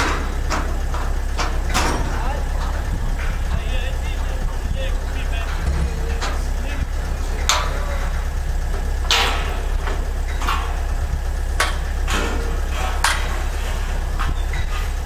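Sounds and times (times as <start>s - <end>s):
low construction rumble: 0.0s - 15.0s
sharp knocks: 0.0s - 15.0s.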